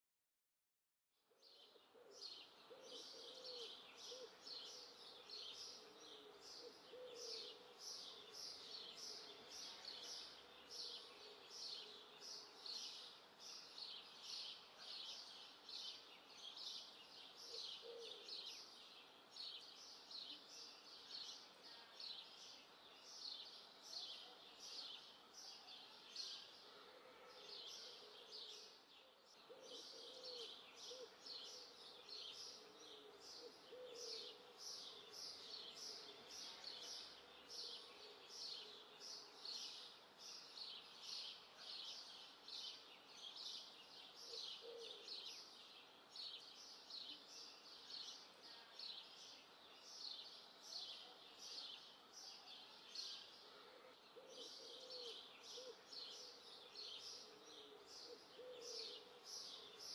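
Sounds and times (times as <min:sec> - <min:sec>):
faint birdsong high chirps: 0:01.2 - 0:59.9.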